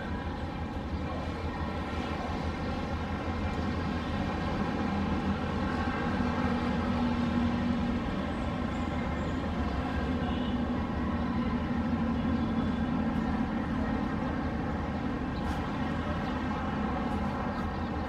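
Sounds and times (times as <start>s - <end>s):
distant engines droning: 0.0s - 18.0s.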